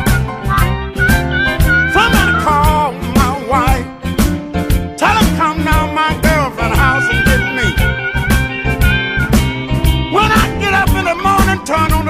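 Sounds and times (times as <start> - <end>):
blues song: 0.0 - 12.0
regular drum beat: 0.0 - 12.0
sliding sung melody: 0.0 - 12.0.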